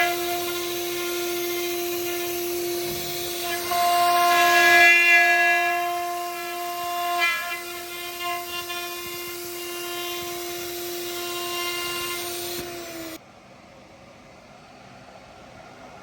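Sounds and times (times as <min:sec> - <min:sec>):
hiss of cutting wood: 0:00.0 - 0:13.2
router spindle whine: 0:00.0 - 0:13.2.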